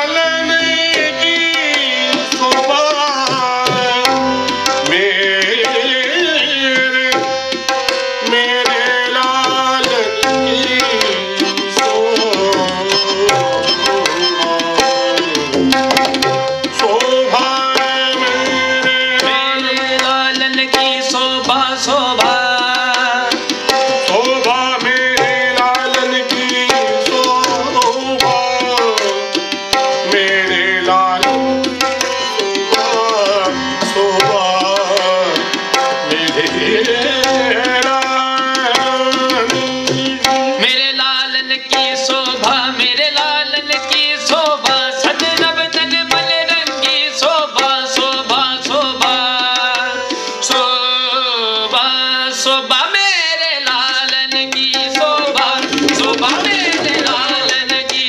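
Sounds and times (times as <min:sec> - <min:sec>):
harmoniums playing chords: 0:00.0 - 0:58.0
man singing: 0:00.0 - 0:58.0
tabla rhythm: 0:00.0 - 0:58.0.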